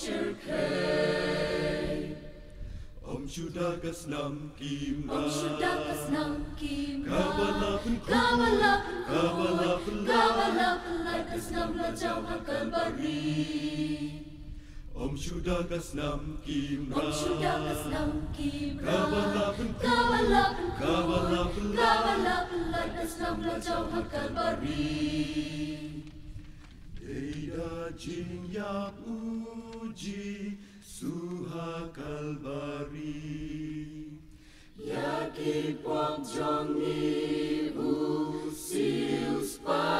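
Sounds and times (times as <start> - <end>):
mixed choir singing unaccompanied: 0.0 - 26.3, 27.0 - 39.9.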